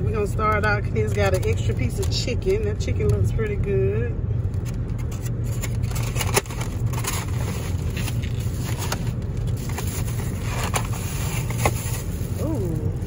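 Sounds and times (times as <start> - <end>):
low car rumble: 0.0 - 13.0.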